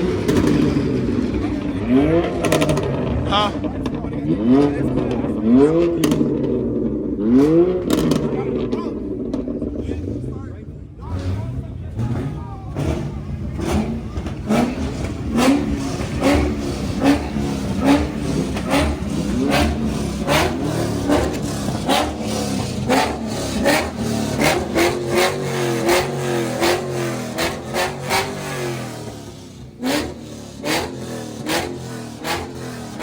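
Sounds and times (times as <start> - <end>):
car engine revving in blips: 0.0 - 33.0
exhaust pops: 0.0 - 33.0.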